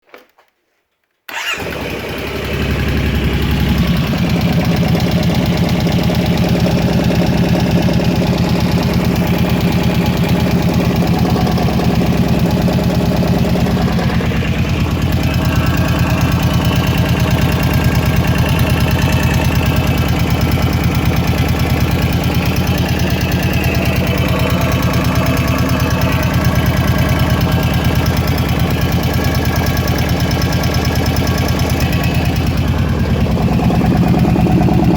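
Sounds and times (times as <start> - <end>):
engine rattle: 1.3 - 34.9
engine starting and idling: 1.3 - 34.9.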